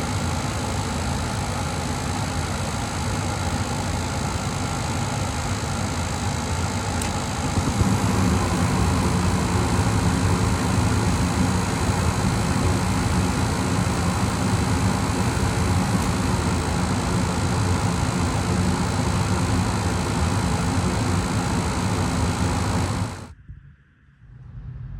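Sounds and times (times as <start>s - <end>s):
gas furnace humming: 0.0s - 23.3s.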